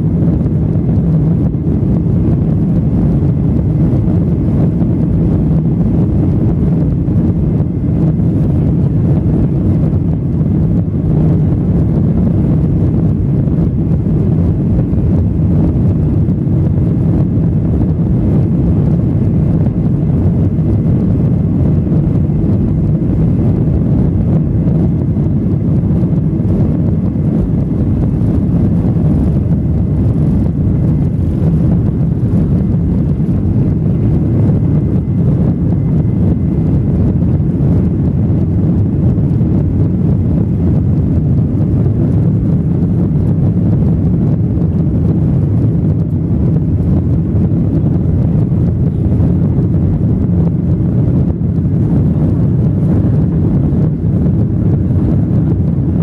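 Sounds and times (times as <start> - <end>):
faint steady whine: 0.0 - 56.0
jet engine cabin roar: 0.0 - 56.0.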